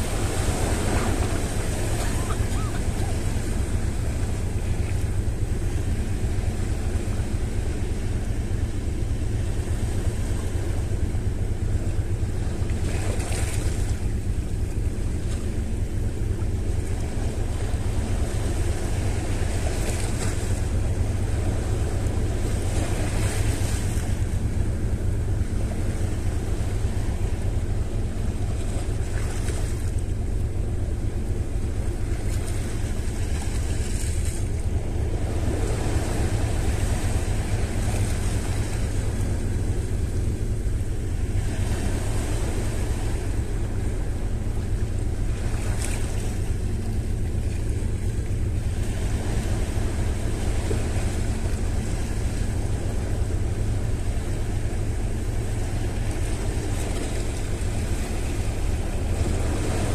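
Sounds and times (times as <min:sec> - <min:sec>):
sea waves washing onto shore: 0:00.0 - 0:59.9
wind rumble on microphone: 0:00.0 - 0:59.9.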